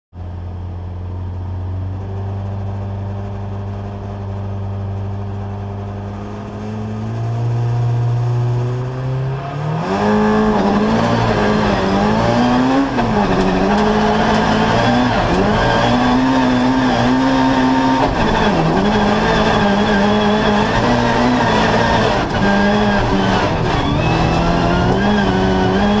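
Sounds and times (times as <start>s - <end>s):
rally car engine revving: 0.2s - 26.0s.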